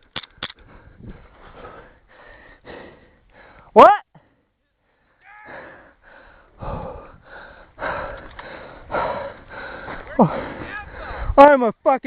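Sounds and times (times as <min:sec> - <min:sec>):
person breathing hard: 0:00.6 - 0:11.4.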